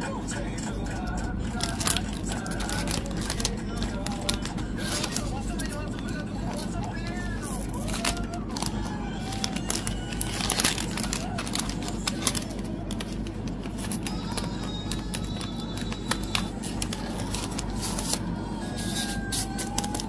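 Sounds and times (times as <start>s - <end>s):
packaging crinkling: 1.5s - 20.0s.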